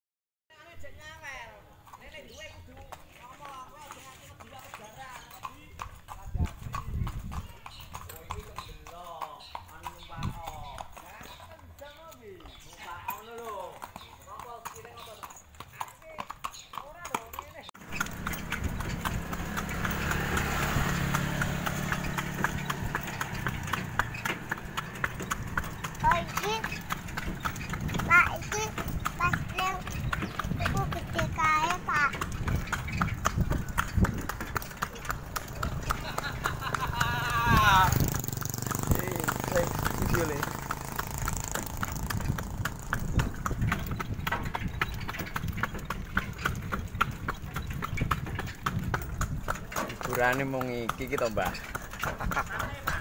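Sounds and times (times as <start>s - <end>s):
horse hooves on concrete: 0.6s - 53.0s
cart rumbling: 1.8s - 53.0s.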